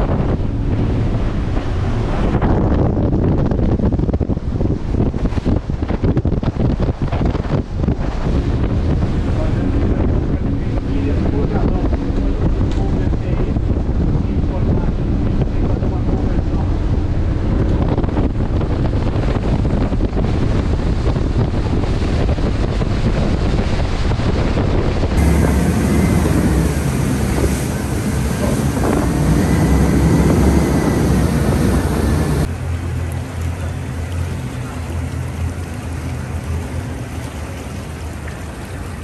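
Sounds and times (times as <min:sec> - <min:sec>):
boat engine rumble: 0:00.0 - 0:39.0
rushing water from wake: 0:00.0 - 0:39.0
wind buffeting microphone: 0:00.0 - 0:39.0.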